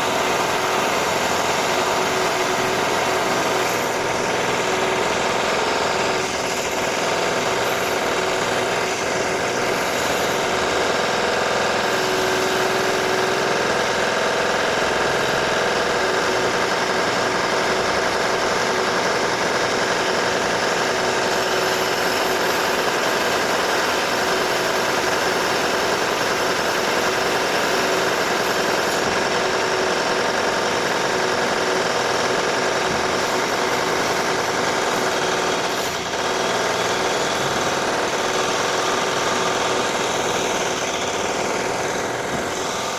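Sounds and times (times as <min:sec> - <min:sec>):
power drill running: 0:00.0 - 0:42.9.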